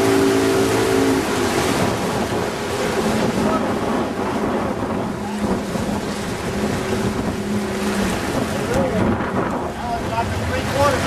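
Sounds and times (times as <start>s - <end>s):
boat motor humming: 0.0s - 11.0s
rushing water: 0.0s - 11.0s
wind buffeting microphone: 0.0s - 11.0s.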